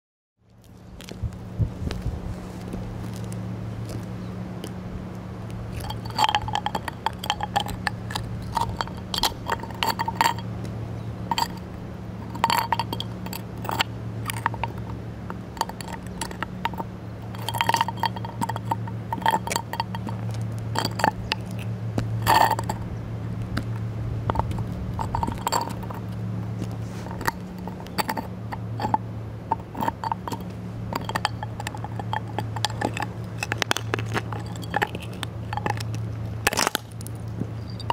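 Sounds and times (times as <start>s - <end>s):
low hum: 0.4s - 37.9s
shell clicking and grinding on concrete: 5.4s - 37.9s.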